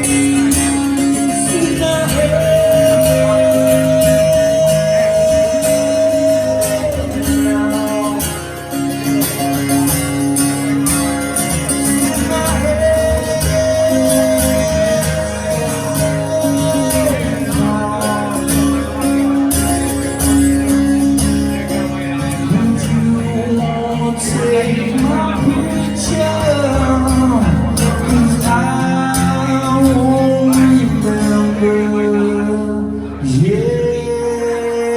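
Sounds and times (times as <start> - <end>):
person singing: 0.0 - 9.0, 11.5 - 19.8, 22.0 - 34.9
live rock band playing: 0.0 - 34.9.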